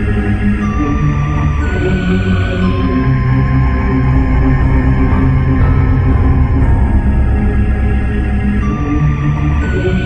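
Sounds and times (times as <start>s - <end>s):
dark ominous droning music: 0.0s - 10.0s.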